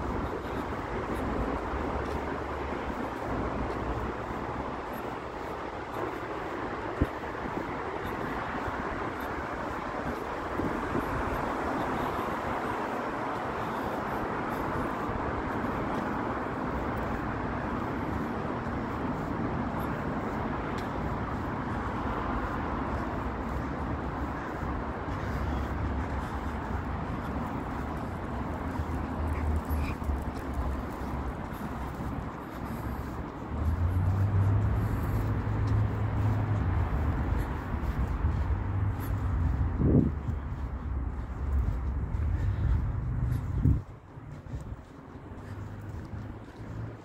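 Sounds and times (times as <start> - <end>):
road traffic hum: 0.0 - 47.0.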